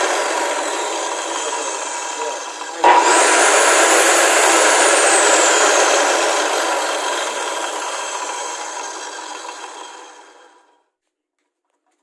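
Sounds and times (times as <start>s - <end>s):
circular saw spinning down: 0.0s - 10.8s.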